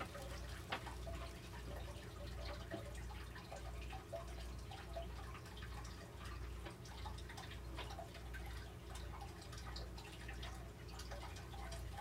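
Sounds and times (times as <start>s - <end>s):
bedding ticks and crackles: 0.0s - 12.0s.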